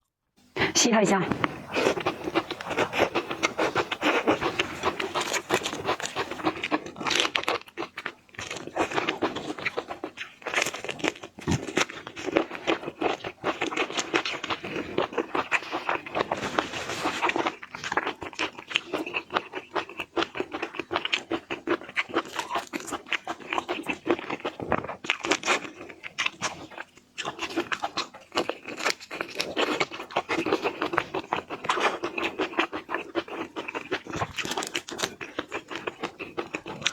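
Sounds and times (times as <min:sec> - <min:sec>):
chewing seafood: 0:00.5 - 0:36.9.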